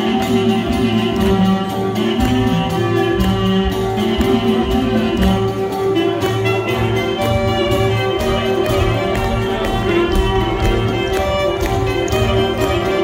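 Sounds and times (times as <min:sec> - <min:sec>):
folk band playing dance tune: 0:00.0 - 0:13.0
frame drum: 0:00.0 - 0:13.0
lute: 0:00.0 - 0:13.0.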